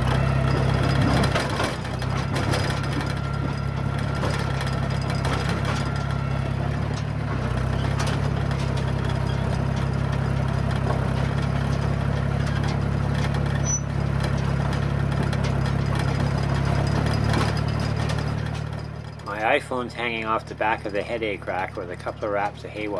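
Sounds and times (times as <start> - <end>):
bulldozer diesel engine running: 0.0 - 22.9.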